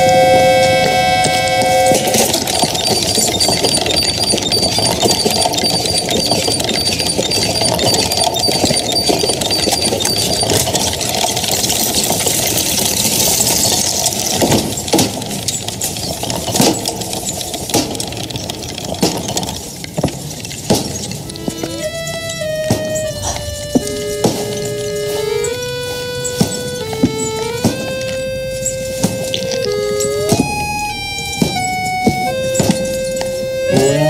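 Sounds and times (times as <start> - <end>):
fast regular ticking: 0.0 - 34.0
toy tricycle whirring and rattling: 0.0 - 34.0
clacks: 0.7 - 34.0.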